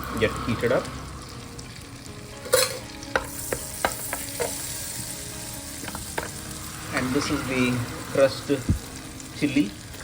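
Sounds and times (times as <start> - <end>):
spices sizzling in oil: 0.0 - 10.0.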